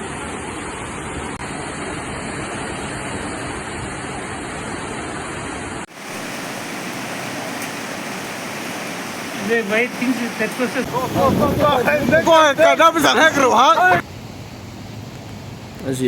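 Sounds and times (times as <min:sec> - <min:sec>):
floodwater rushing: 0:00.0 - 0:15.8.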